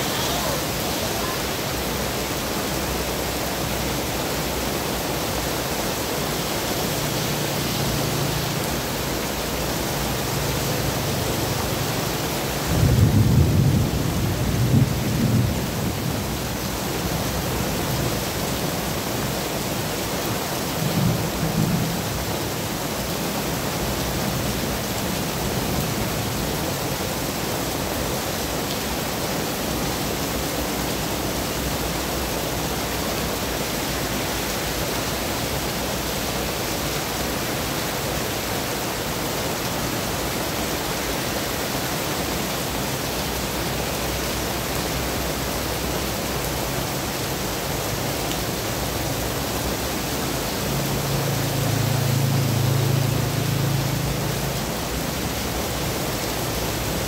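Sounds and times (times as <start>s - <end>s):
heavy rain on a wet street: 0.0s - 57.0s
traffic passing through water: 0.0s - 57.0s.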